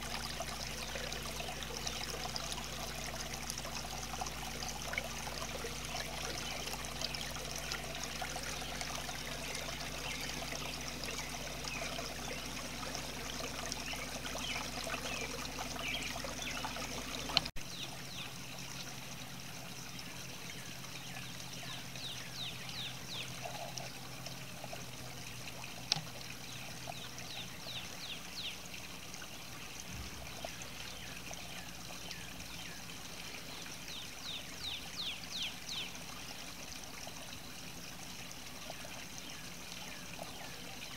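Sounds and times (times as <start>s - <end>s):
fountain water trickling: 0.0s - 40.9s.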